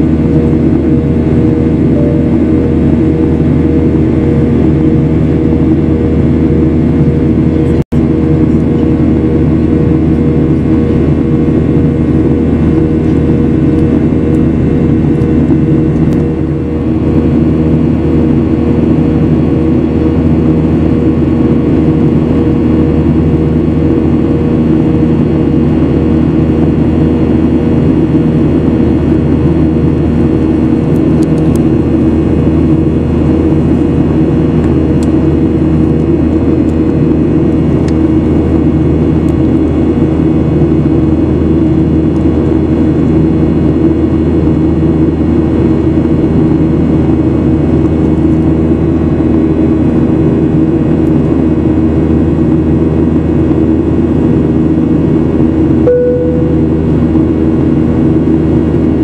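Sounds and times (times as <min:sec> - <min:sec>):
steady low hum: 0:00.0 - 0:42.8, 0:54.3 - 0:58.9
jet engines droning: 0:00.0 - 0:50.7, 0:51.5 - 0:59.0.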